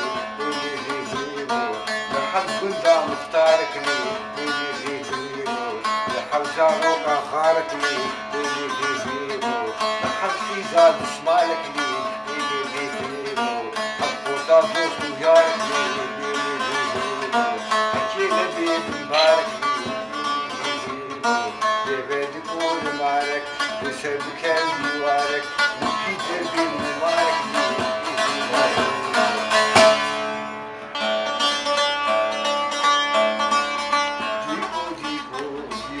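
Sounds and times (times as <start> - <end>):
long-necked lute plucked in fast runs: 0.0 - 36.0.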